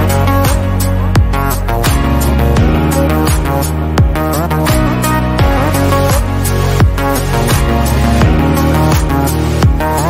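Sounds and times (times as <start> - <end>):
kick drum thumping: 0.5 - 10.0.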